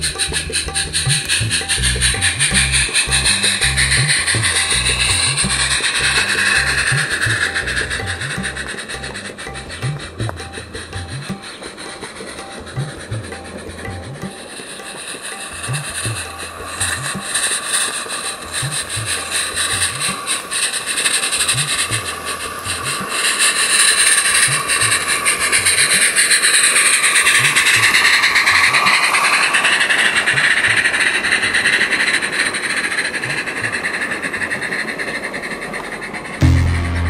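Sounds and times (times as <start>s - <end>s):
wheels ticking on rail joints: 0.0s - 36.4s
steam hissing: 0.0s - 37.0s
steam locomotive exhaust beats: 0.0s - 37.0s.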